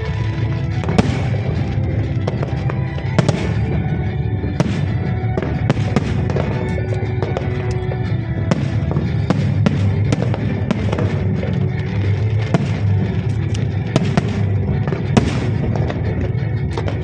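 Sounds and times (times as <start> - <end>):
fireworks bangs and crackles: 0.0 - 17.0
loud music: 0.0 - 17.0.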